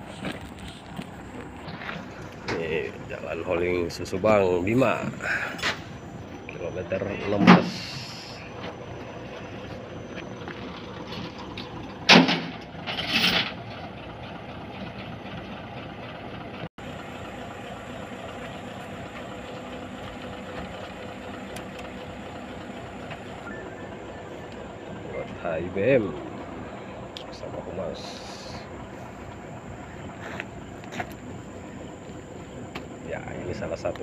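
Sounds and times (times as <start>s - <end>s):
road noise: 0.0s - 34.0s
vehicle engine: 0.0s - 34.0s.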